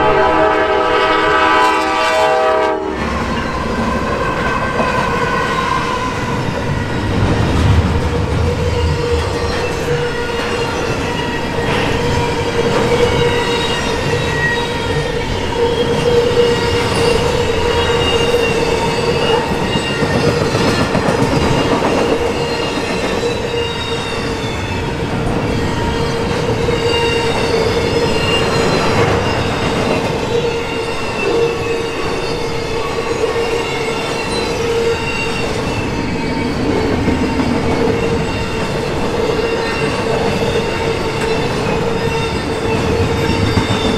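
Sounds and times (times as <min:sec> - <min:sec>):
steel wheels rumbling on rail: 0:00.0 - 0:43.9
wheel squeals: 0:08.3 - 0:43.9.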